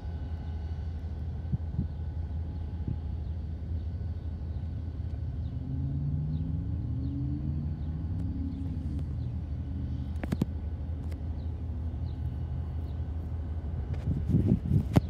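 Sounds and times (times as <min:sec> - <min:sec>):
locomotive engine rumbling: 0:00.0 - 0:15.0.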